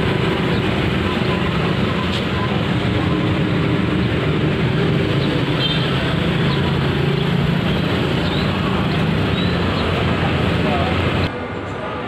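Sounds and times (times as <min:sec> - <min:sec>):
engine and traffic rumble: 0:00.0 - 0:12.0.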